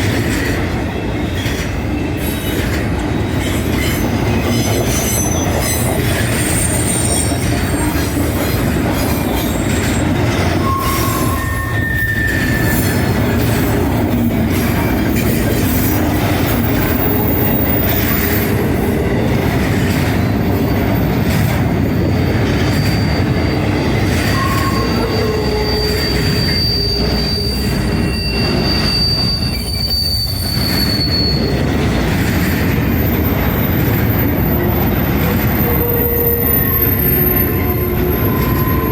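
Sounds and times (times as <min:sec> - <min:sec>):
train wheels rumbling on rail: 0:00.0 - 0:38.9
wheel squeals: 0:01.2 - 0:38.9.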